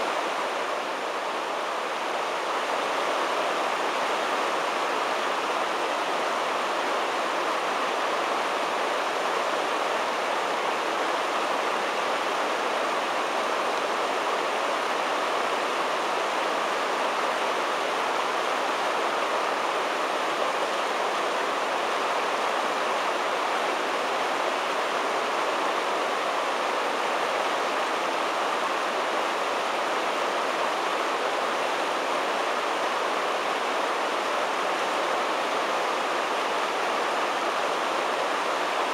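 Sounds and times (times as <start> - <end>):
whitewater rushing: 0.0 - 38.9.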